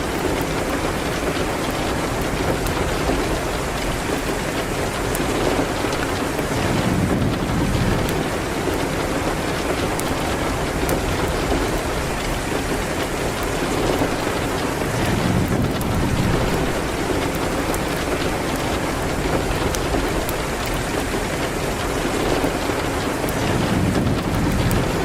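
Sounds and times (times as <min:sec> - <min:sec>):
rain on a window: 0:00.0 - 0:25.0
wood fire crackling and popping: 0:00.0 - 0:25.0.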